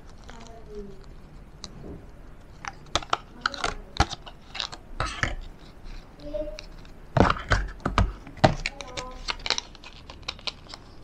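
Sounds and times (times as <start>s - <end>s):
plastic packaging clicks and crinkles: 0.0s - 1.4s, 2.4s - 11.0s.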